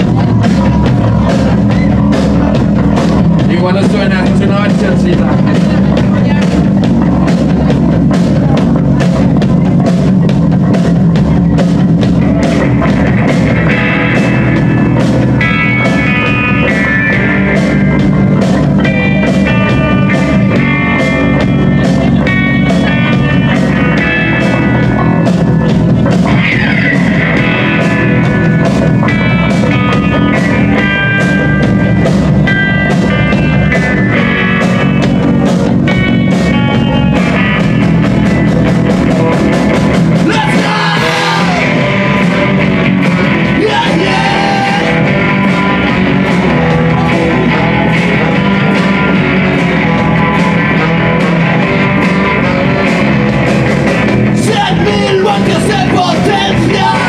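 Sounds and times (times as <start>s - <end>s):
lead melody line: 0.0s - 57.0s
rock band playing live: 0.0s - 57.0s.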